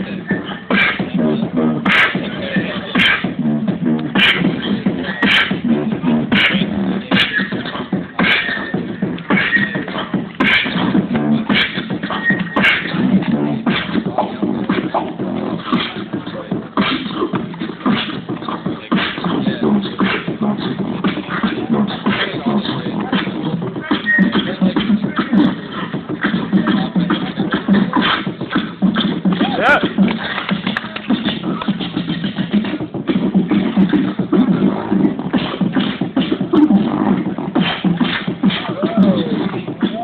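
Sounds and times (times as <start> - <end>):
beatboxing through small speaker: 0.0 - 40.0.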